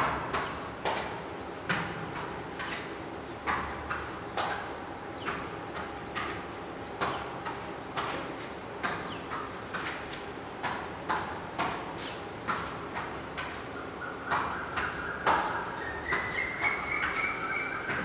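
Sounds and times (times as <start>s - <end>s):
bare feet slapping on foam mats: 0.0s - 17.2s
crickets chirping: 0.0s - 18.0s.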